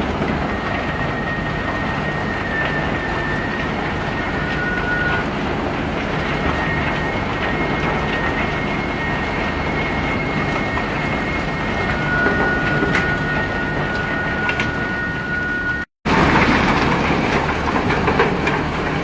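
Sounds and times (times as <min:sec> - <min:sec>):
thin high whine: 0:00.0 - 0:15.9.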